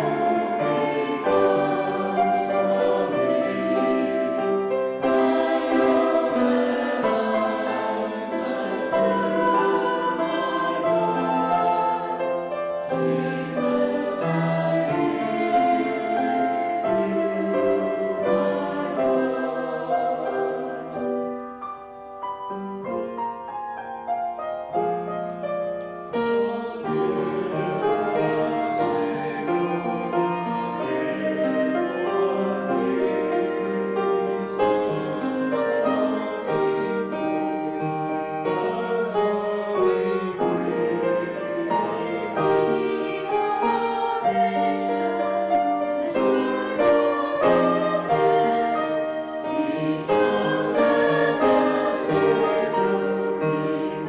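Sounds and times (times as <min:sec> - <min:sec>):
church choir singing: 0:00.0 - 0:54.0
piano accompaniment: 0:00.0 - 0:54.0.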